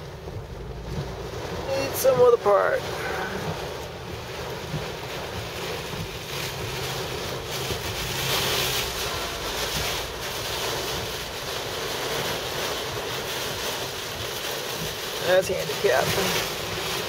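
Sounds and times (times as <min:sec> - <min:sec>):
heavy rain on car: 0:00.0 - 0:17.0.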